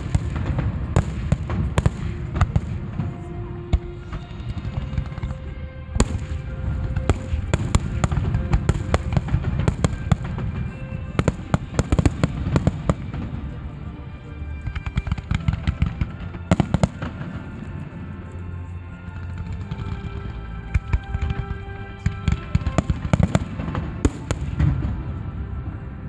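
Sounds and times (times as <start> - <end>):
fireworks cracks and bangs: 0.0 - 13.6, 14.6 - 17.7, 19.2 - 25.2
music playing: 0.0 - 26.0.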